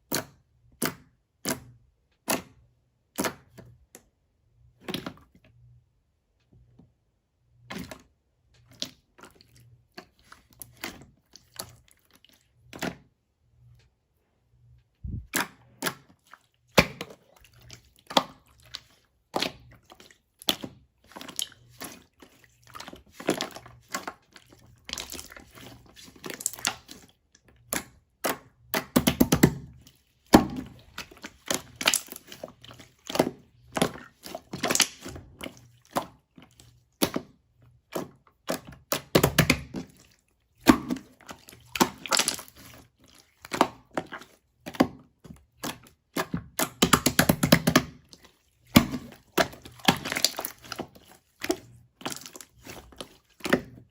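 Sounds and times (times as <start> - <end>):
slime squelching: 7.6 - 14.4, 15.0 - 53.9.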